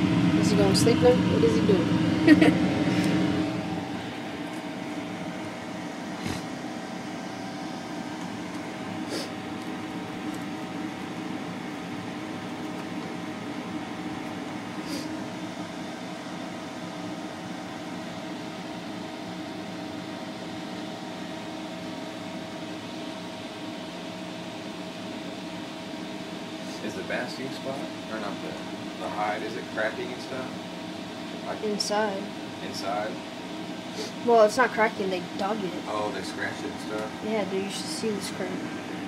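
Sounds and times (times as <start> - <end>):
machine hum: 0.0 - 39.0.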